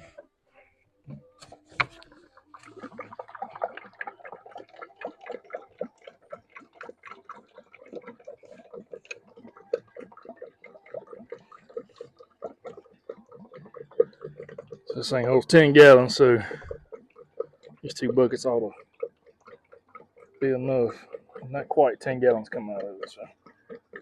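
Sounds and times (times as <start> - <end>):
fluid glugging into filler: 1.4 - 24.0.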